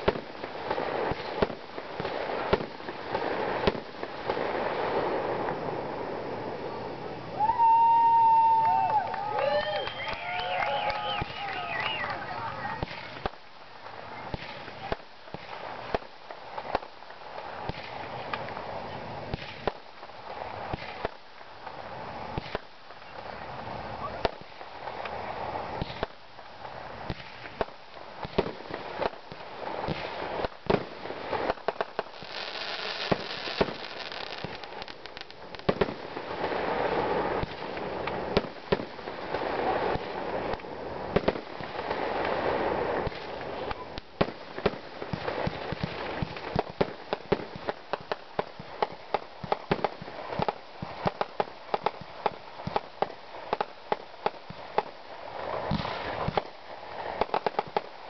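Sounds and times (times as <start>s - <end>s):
crackling pops: 0.0s - 5.6s, 7.4s - 23.3s, 24.1s - 26.2s, 27.0s - 58.0s
fireworks bangs: 0.0s - 58.0s
fireworks hiss: 0.0s - 58.0s.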